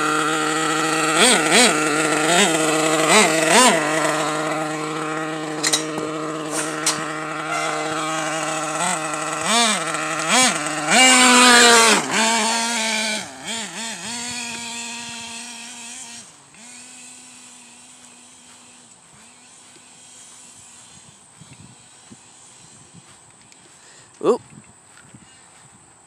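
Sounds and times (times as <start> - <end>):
small nitro engine revving: 0.0 - 24.4.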